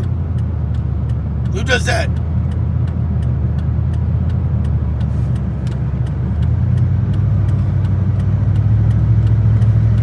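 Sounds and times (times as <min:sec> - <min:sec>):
regular ticking: 0:00.0 - 0:10.0
truck engine and road noise: 0:00.0 - 0:10.0.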